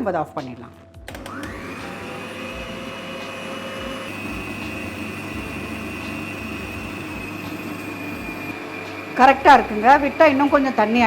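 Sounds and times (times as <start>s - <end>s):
electric mixer whining: 1.1s - 11.0s.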